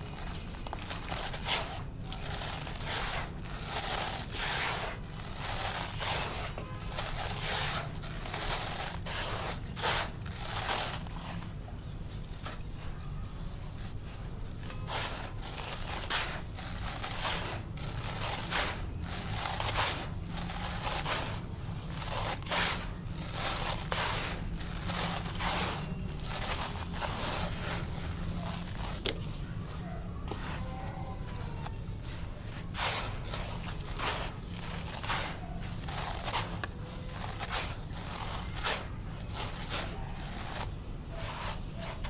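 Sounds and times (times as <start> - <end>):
concrete crunching: 0.0 - 42.0.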